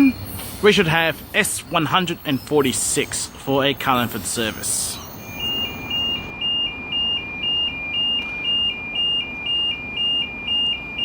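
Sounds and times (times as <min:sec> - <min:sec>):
two-tone warning alarm beeps: 0:00.0 - 0:11.0.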